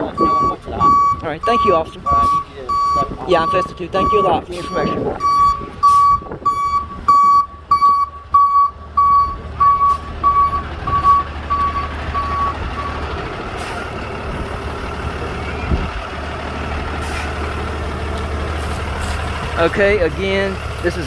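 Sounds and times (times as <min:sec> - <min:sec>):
truck reversing alarm beeping: 0:00.0 - 0:18.5
vehicle engine running: 0:00.0 - 0:21.0.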